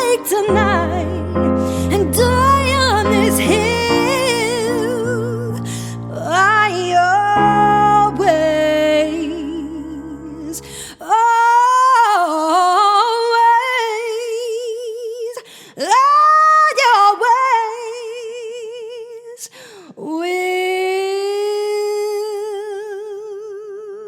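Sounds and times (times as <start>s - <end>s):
woman singing unaccompanied: 0.0s - 19.4s.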